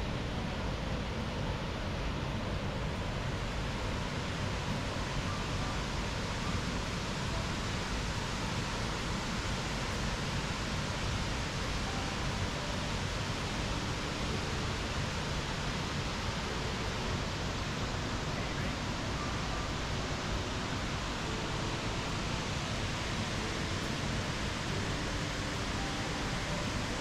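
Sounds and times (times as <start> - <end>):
waterfall roaring: 0.8 - 27.0.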